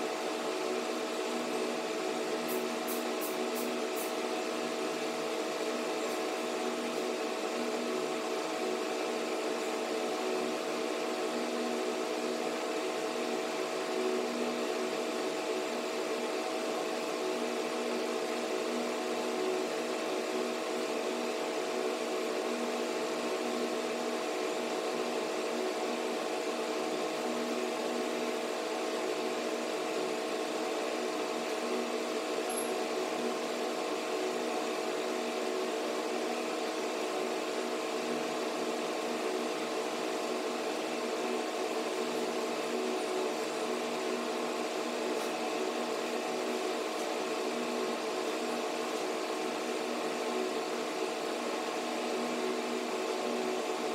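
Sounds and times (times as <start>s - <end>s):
steady machine hum: 0.0s - 53.9s.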